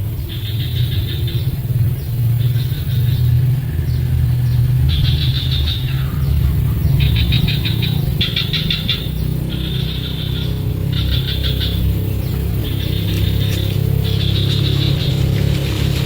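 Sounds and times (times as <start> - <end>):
nestlings chittering: 0.0 - 16.0.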